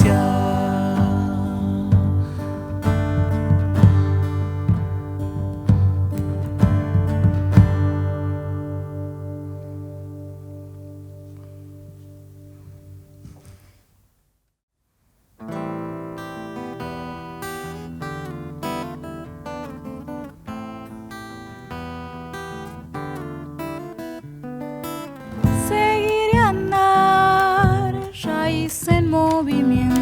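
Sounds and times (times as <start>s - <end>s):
acoustic guitar picking: 0.0s - 13.4s, 15.4s - 30.0s.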